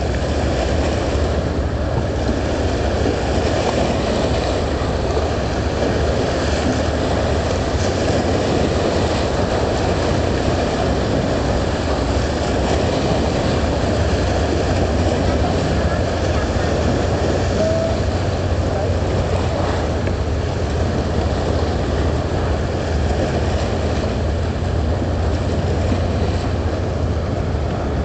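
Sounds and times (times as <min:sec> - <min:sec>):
boat engine running: 0:00.0 - 0:28.0
water rushing alongside boat: 0:00.0 - 0:28.0.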